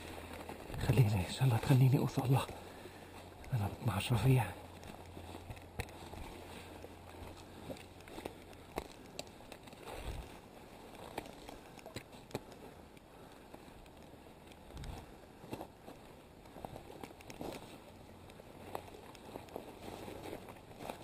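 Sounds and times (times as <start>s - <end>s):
footsteps through dry brush: 0.0s - 21.0s
twigs snapping: 3.3s - 21.0s.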